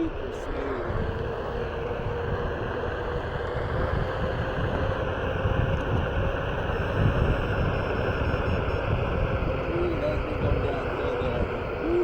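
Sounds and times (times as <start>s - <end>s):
electric motor whine: 0.0s - 12.0s
wind on microphone: 0.0s - 12.0s.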